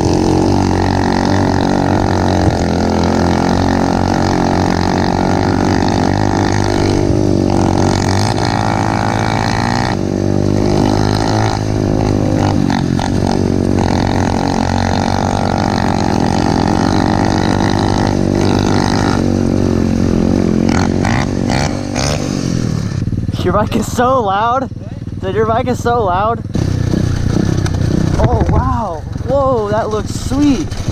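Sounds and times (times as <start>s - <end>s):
motorbike engine revving: 0.0s - 30.9s.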